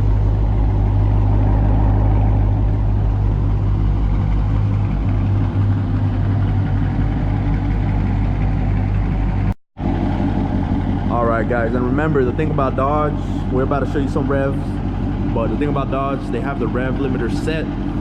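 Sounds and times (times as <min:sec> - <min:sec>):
car engines idling: 0:00.0 - 0:18.0.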